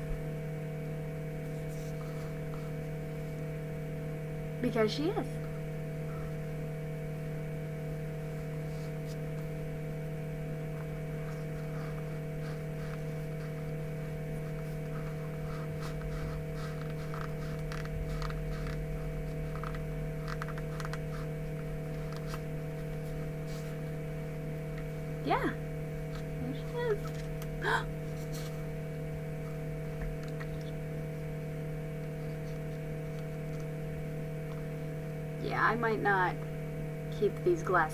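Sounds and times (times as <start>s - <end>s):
steady electrical hum: 0.0s - 37.9s.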